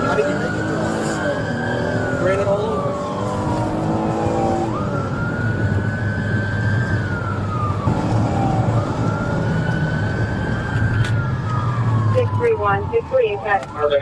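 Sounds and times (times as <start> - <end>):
police siren wailing: 0.0 - 14.0
road noise: 0.0 - 14.0
vehicle engine rumble: 0.0 - 14.0.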